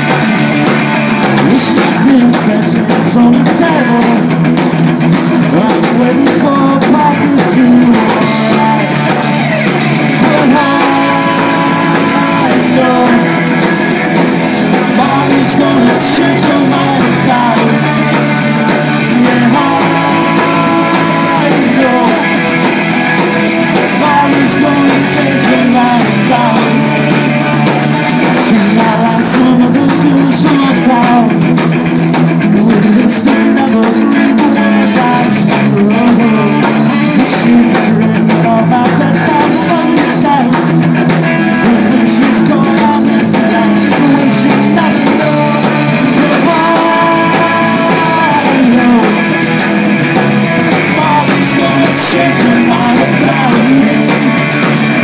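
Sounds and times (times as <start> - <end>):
person singing: 0.0 - 4.6, 5.2 - 55.0
bass guitar: 0.0 - 55.0
drum kit: 0.0 - 55.0
electric guitars: 0.0 - 55.0.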